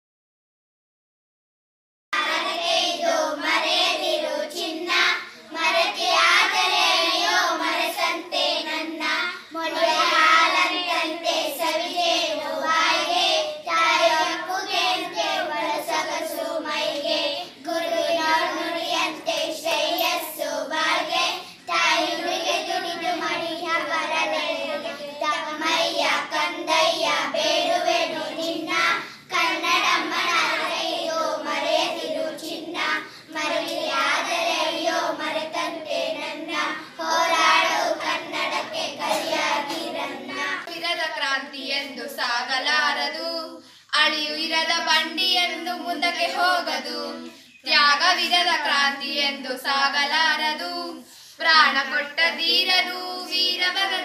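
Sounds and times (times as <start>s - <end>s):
girls singing together: 2.2s - 54.0s.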